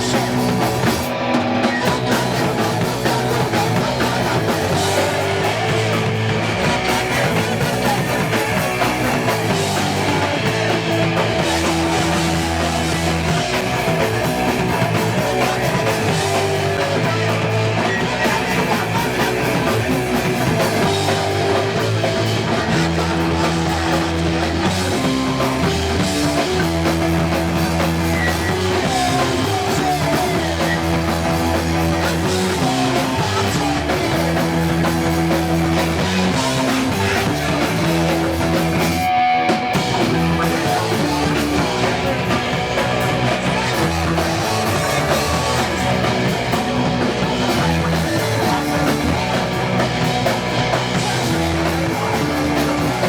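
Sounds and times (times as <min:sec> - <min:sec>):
bass guitar: 0:00.0 - 0:53.0
drum kit: 0:00.0 - 0:53.0
electric guitar chords: 0:00.0 - 0:53.0.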